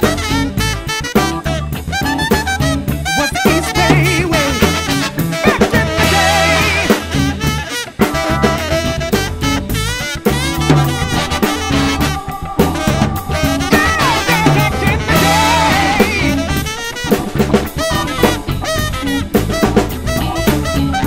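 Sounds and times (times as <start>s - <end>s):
drum kit playing: 0.0s - 21.0s
funk music with horns and bass: 0.0s - 21.0s.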